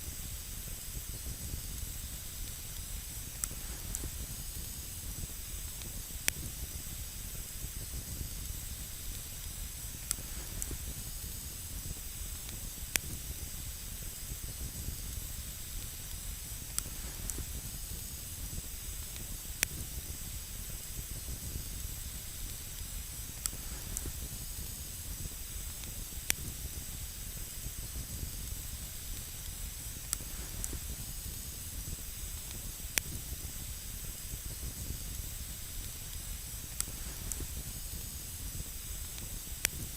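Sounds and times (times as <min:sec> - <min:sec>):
campfire hissing: 0:00.0 - 0:39.9
fire crackles and pops: 0:00.0 - 0:39.9.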